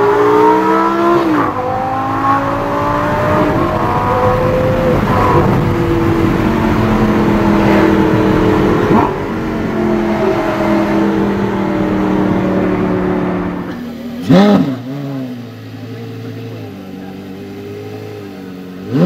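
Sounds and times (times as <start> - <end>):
car engine drone and road noise: 0.0 - 19.0.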